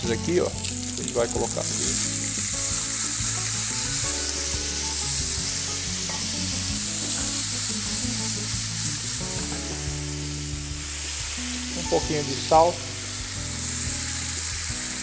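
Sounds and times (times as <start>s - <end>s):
tomatoes sizzling in a frying pan: 0.0s - 15.0s.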